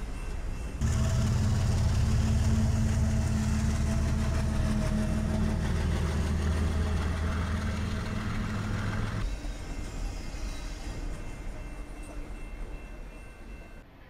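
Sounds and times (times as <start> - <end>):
diesel locomotive engine running: 0.0 - 13.8
rumble of freight cars rolling: 0.0 - 13.9.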